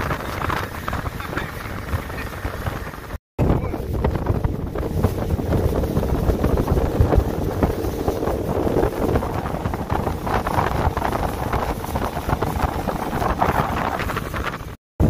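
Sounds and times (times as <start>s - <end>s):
hull rushing through water: 0.0s - 14.8s
motorboat engine running: 0.0s - 14.8s
wind buffeting microphone: 0.0s - 14.8s.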